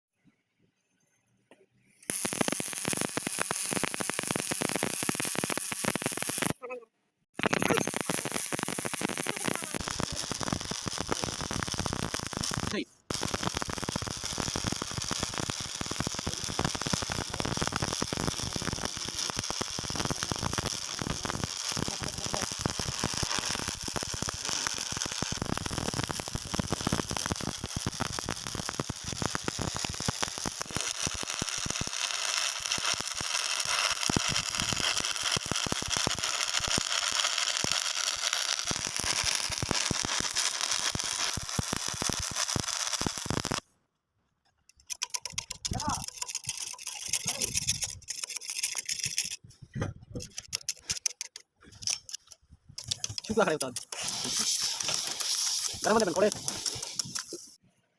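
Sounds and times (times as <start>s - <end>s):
welding arc crackling hiss: 2.1s - 6.6s, 7.4s - 43.6s, 45.0s - 49.4s, 52.8s - 57.6s.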